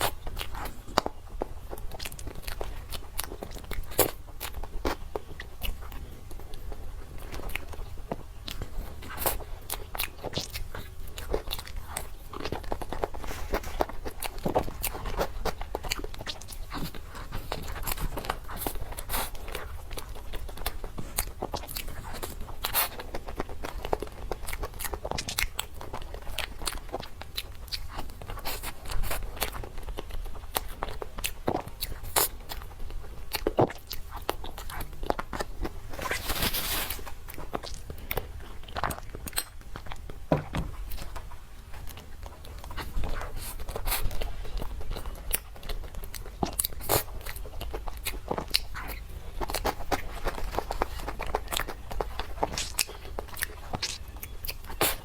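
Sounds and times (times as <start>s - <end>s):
person chewing cake: 0.0s - 55.0s.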